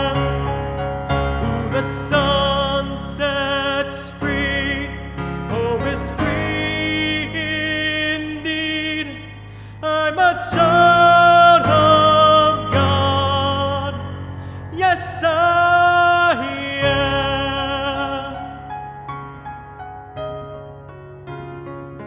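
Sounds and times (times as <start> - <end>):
man singing worship song: 0.0 - 18.8
piano accompaniment: 0.0 - 22.0.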